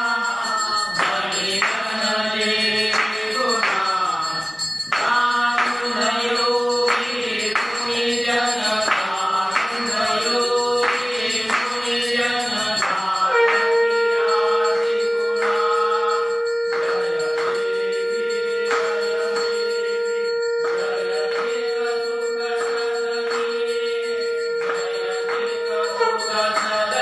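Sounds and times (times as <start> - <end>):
voices singing a devotional chant: 0.0 - 27.0.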